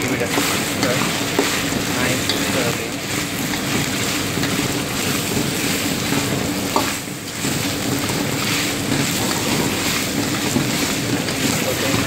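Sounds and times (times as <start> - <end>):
meat and onions sizzling in a wok: 0.0 - 12.0.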